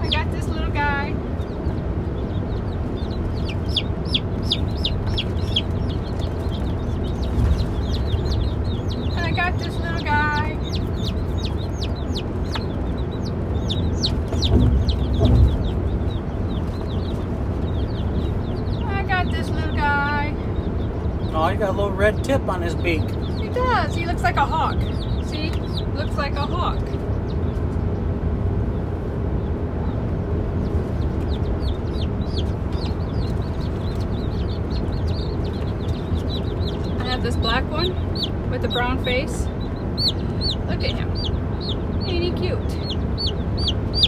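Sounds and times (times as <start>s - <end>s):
baby chicks peeping: 0.0s - 44.0s
steady low rumble: 0.0s - 44.0s.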